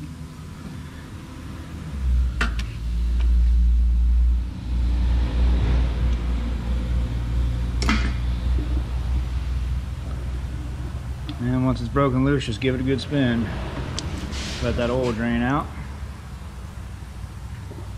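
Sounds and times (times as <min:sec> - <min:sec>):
heavy low rumble: 0:00.0 - 0:17.9.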